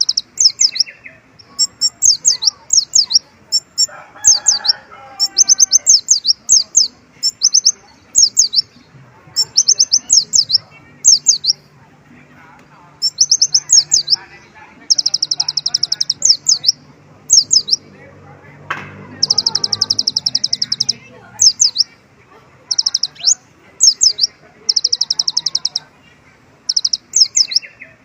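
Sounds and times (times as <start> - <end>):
rough low bird sound: 0.0 - 11.7, 12.9 - 22.0, 22.6 - 28.0
sunbird singing high chirps: 0.0 - 11.7, 12.9 - 17.9, 19.1 - 22.0, 22.6 - 26.0, 26.6 - 28.0.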